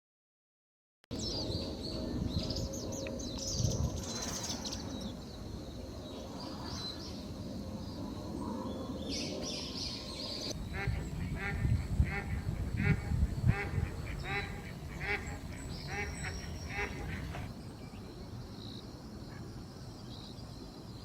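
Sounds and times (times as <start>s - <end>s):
outdoor background hum: 1.1s - 21.0s
songbirds chirping: 1.1s - 21.0s.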